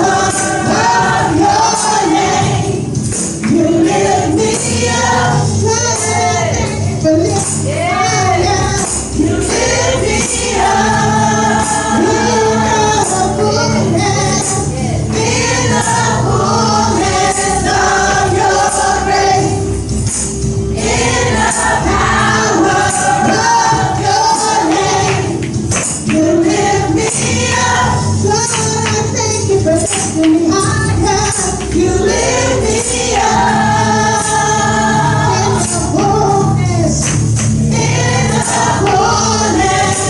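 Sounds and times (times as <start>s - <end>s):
instrumental backing: 0.0s - 40.0s.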